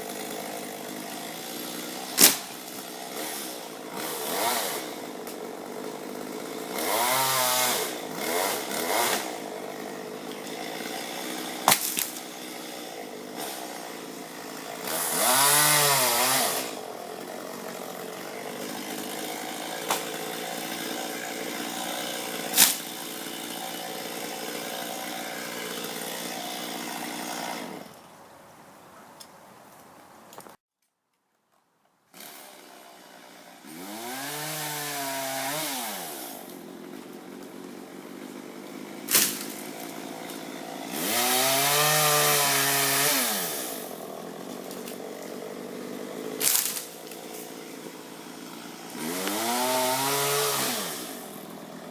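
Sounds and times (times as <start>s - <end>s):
chainsaw idling and revving: 0.0s - 28.0s, 32.1s - 51.9s.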